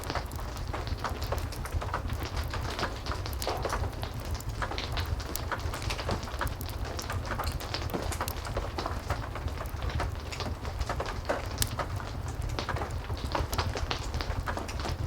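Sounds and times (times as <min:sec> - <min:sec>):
heavy rain falling: 0:00.0 - 0:15.0
wood fire crackling: 0:00.0 - 0:15.0.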